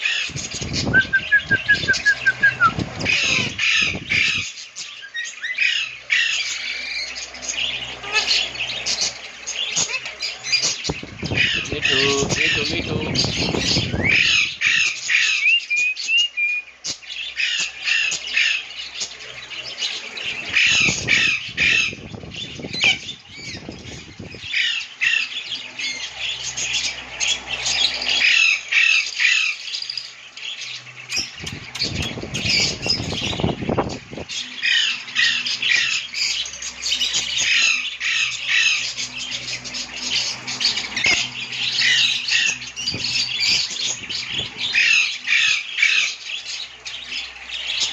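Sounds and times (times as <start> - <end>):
lovebirds squawking and chattering: 0.0 - 47.9.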